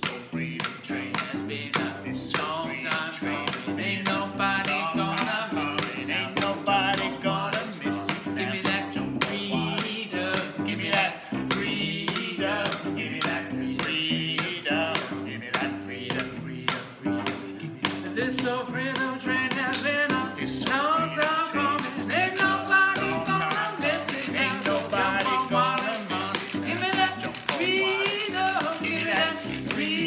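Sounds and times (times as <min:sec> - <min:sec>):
plucked cello: 0:00.0 - 0:30.0
spoon tapping on a can: 0:00.0 - 0:30.0
two men singing: 0:00.0 - 0:30.0.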